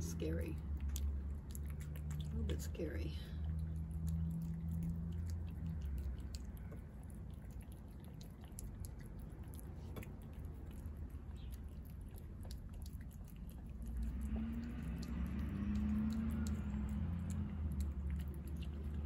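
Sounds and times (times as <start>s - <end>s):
cat chewing wet food: 0.0s - 19.0s.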